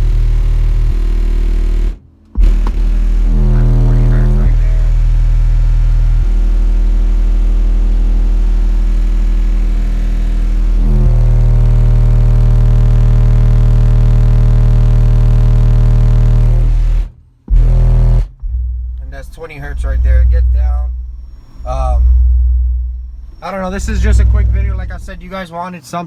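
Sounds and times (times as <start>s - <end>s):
subwoofer bass test tones: 0.0s - 25.6s.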